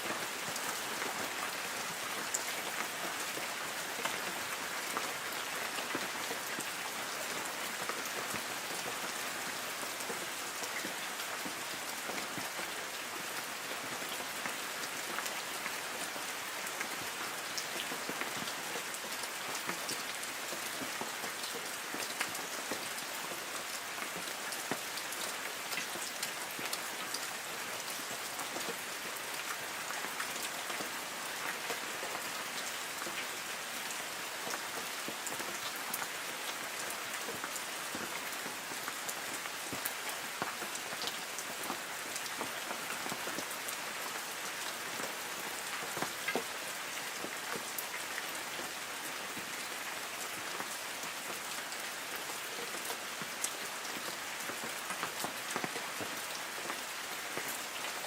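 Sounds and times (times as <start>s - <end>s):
raindrops tapping on leaves: 0.0s - 58.0s.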